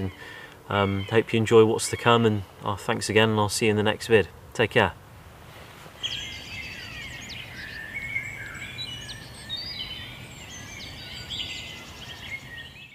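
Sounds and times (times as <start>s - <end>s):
birds singing: 0.0s - 4.1s, 5.9s - 12.9s.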